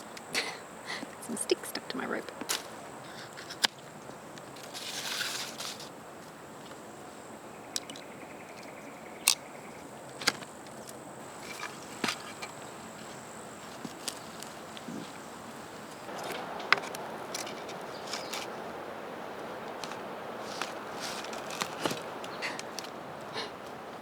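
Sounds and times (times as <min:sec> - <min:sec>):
branches rustling: 0:00.0 - 0:24.0.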